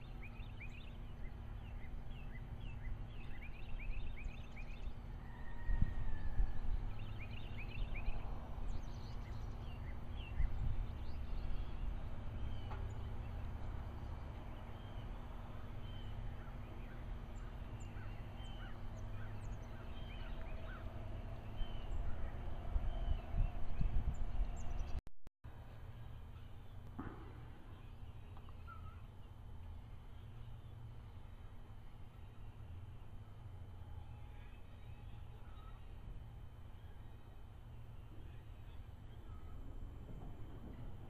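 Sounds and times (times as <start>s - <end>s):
birds chirping: 0.0s - 25.0s, 25.6s - 41.0s
steady low rumble: 0.0s - 41.0s.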